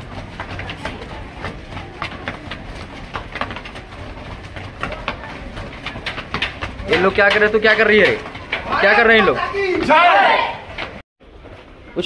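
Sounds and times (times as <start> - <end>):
footsteps running up concrete stairs: 0.0 - 11.6.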